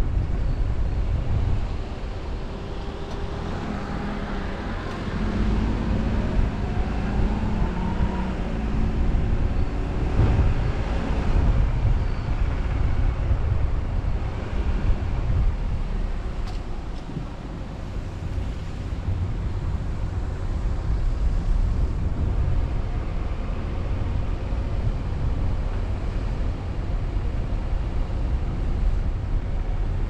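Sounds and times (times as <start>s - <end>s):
car engine: 0.0s - 30.0s
road noise: 0.0s - 30.0s.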